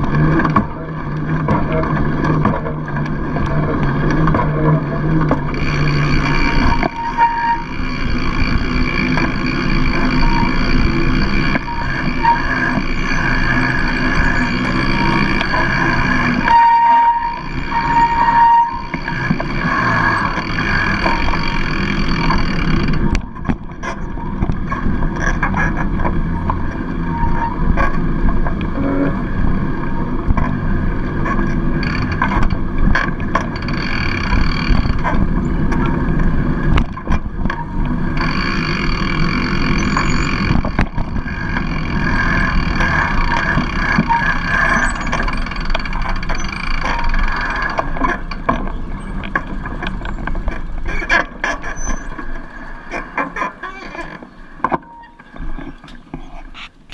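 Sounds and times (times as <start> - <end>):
bicycle tyre noise on road: 0.0 - 56.9
bike clicks and rattles: 0.0 - 56.9.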